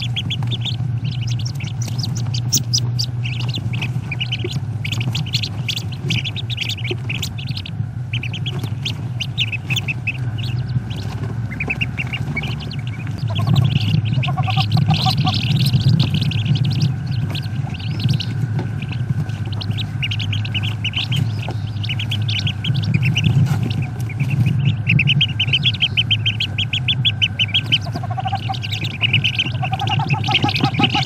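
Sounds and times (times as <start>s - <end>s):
ducklings peeping: 0.0s - 31.0s
lower repeated calls: 0.0s - 31.0s
steady low hum: 0.0s - 31.0s.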